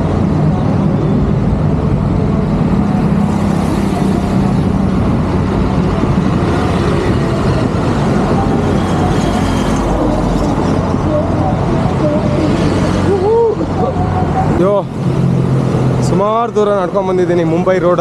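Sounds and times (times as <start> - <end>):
low engine hum: 0.0 - 18.0
road traffic passing: 0.0 - 18.0.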